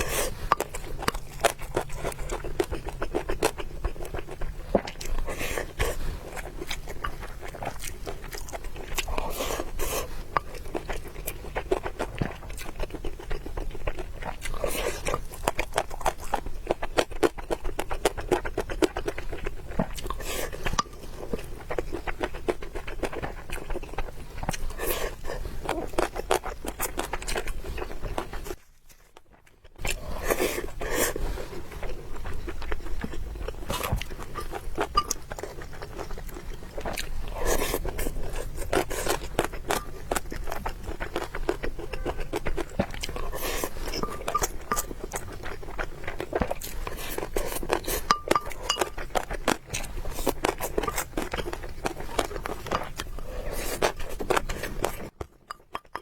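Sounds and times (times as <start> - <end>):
wet chewing and mouth smacking: 0.0 - 56.0.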